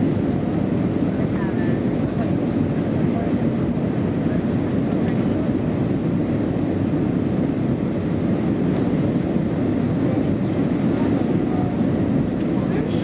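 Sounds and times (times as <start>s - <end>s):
jet engines: 0.0s - 13.0s.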